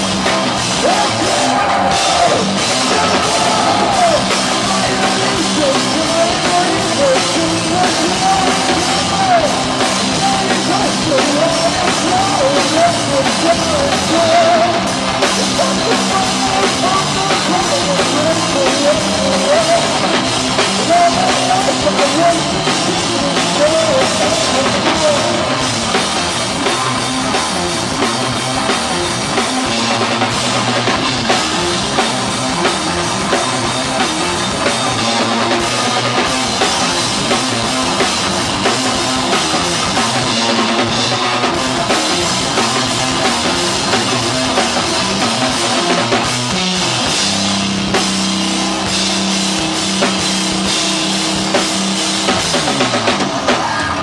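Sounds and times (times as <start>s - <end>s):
doom metal band playing: 0.0s - 54.0s
drum kit with cymbals: 0.0s - 54.0s.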